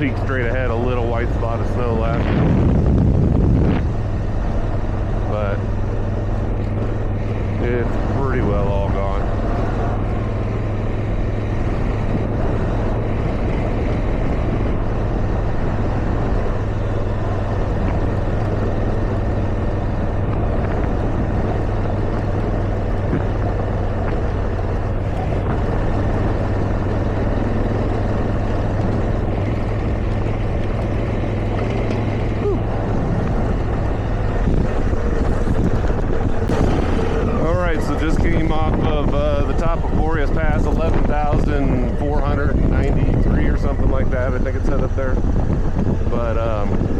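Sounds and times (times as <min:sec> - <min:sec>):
motorcycle engine running: 0:00.0 - 0:46.9
wind rushing past microphone: 0:00.0 - 0:46.9.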